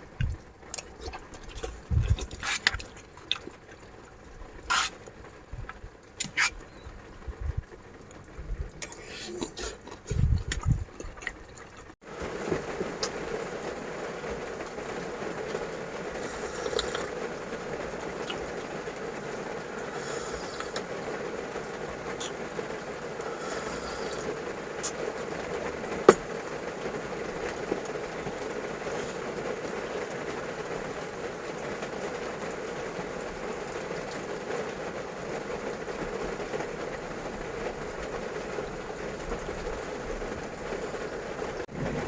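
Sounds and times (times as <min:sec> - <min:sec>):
heavy rain on a vehicle roof: 0:03.0 - 0:06.2, 0:06.9 - 0:08.8, 0:11.8 - 0:42.0.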